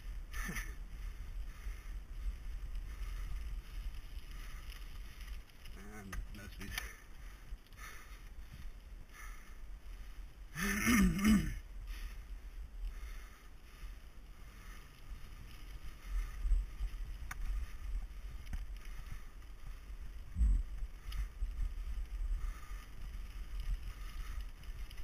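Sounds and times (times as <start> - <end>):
wind and tyres rumbling: 0.0 - 25.0.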